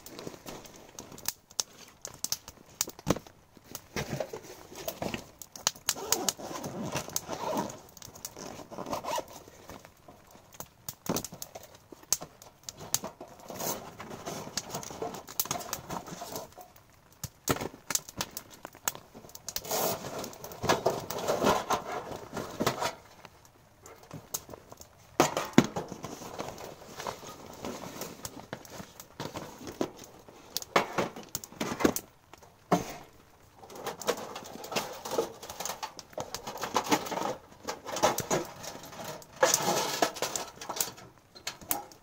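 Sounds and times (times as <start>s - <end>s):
rustling and crinkling: 0.0s - 42.0s.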